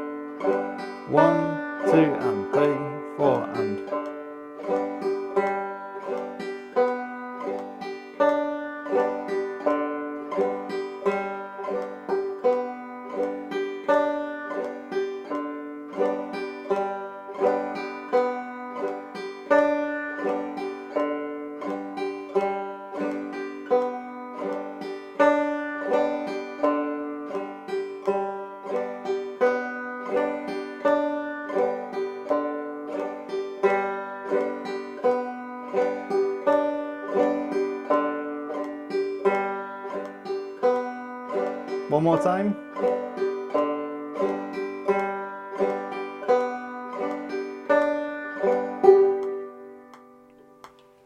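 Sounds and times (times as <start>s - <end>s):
banjo strumming: 0.0s - 51.0s.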